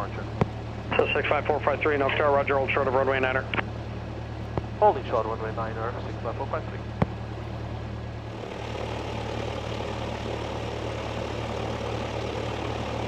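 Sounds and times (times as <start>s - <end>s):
propeller plane engine idling: 0.0s - 13.0s.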